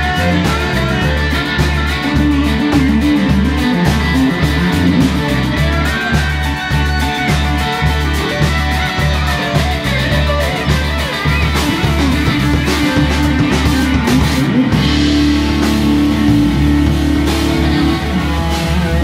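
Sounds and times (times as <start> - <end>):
bass line: 0.0 - 19.0
drums: 0.0 - 19.0
electric guitars: 0.0 - 19.0.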